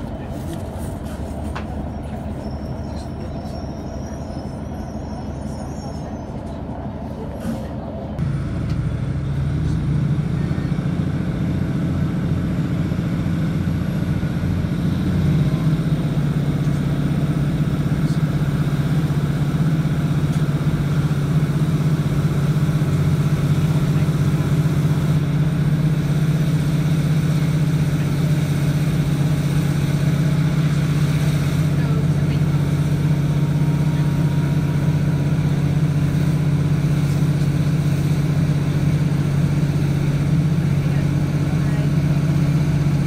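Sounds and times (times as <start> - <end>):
train diesel engine accelerating: 0.0 - 43.0.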